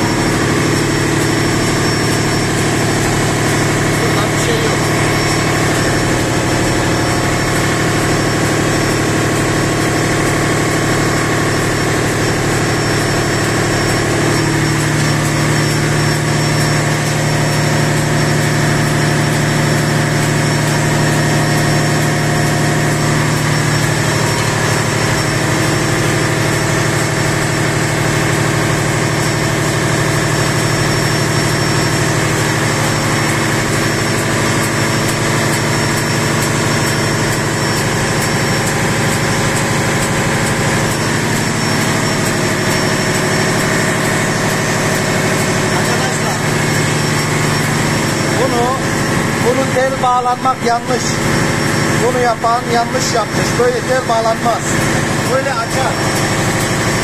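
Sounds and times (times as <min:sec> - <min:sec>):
engine room machinery drone: 0:00.0 - 0:57.0.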